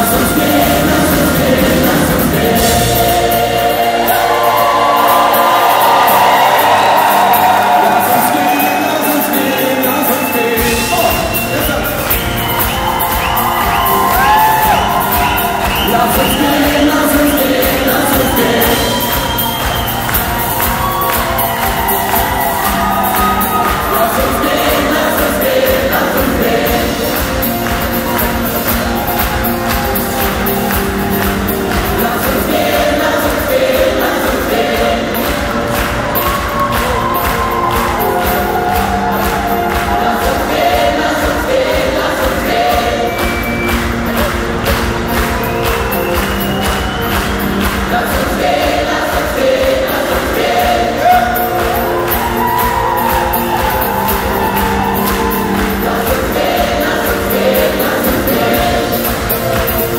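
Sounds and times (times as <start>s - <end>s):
choir singing with live band: 0.0s - 59.9s
drums keeping a steady beat: 0.0s - 59.9s
electric guitars: 0.0s - 59.9s.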